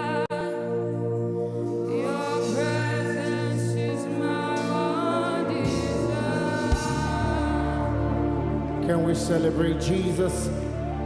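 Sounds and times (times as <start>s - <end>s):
gliding gospel vocals: 0.0s - 11.0s
keyboard chords: 0.0s - 11.0s.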